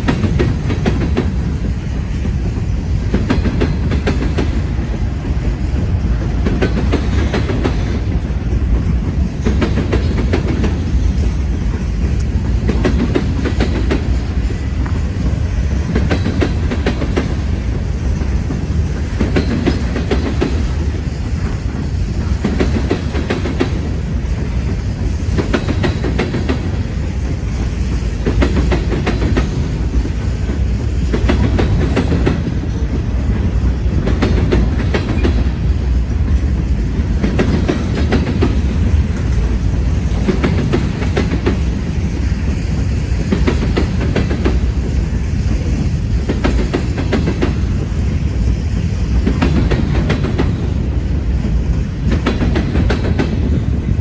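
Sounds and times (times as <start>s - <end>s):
freight train rumbling past: 0.0s - 54.0s
wheels clicking over rail joints: 0.0s - 54.0s.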